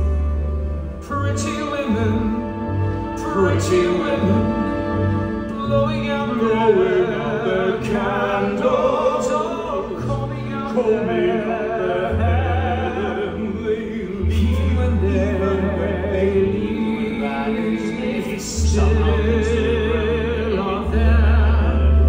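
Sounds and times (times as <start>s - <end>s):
long low bass notes: 0.0s - 22.0s
man singing with vibrato: 0.0s - 22.0s
orchestra playing: 0.0s - 22.0s.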